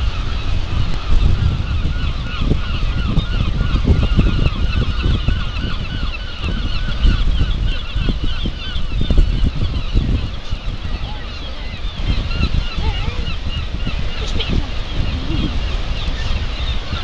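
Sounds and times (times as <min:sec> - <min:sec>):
seagulls calling: 0:00.0 - 0:17.0.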